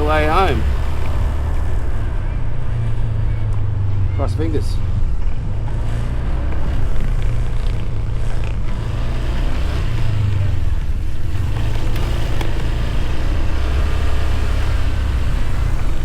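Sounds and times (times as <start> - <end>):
motorbike engine rumble: 0.0 - 16.0.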